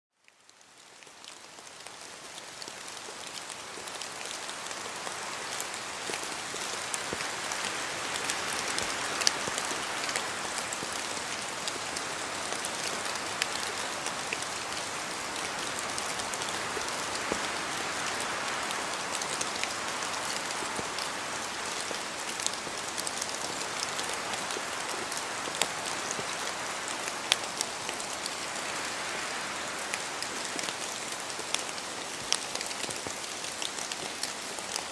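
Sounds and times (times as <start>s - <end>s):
rain falling in a forest: 0.1s - 34.9s.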